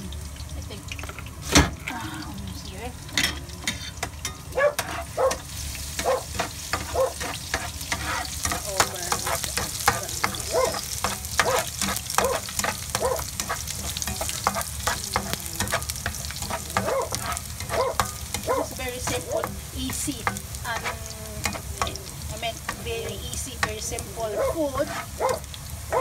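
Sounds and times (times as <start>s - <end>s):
garlic sizzling in oil: 0.0s - 26.0s
utensil stirring in pan: 3.1s - 26.0s.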